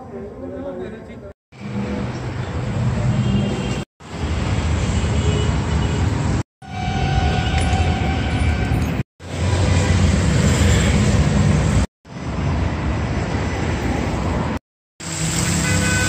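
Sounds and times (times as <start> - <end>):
traffic rumble: 0.0 - 15.9.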